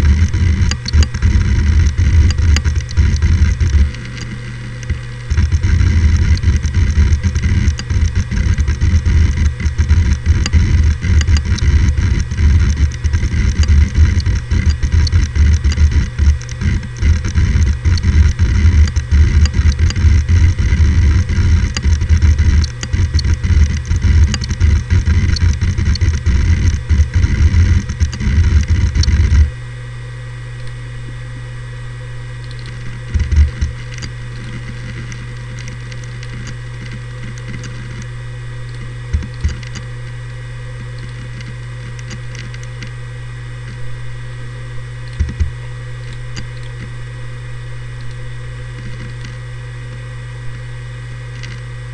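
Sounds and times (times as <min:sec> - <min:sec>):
hard drive seek clicking: 0:00.0 - 0:51.9
hard drive spindle hum: 0:00.0 - 0:51.9.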